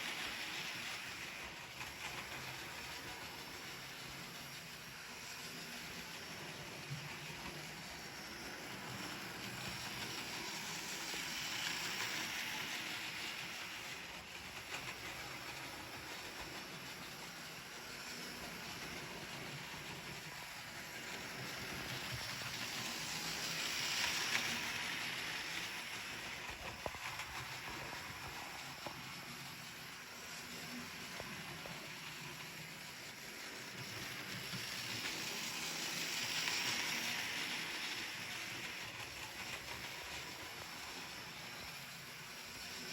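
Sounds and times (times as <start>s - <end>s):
model train motor whirr: 0.0s - 42.9s
wheel noise on rails: 0.0s - 42.9s.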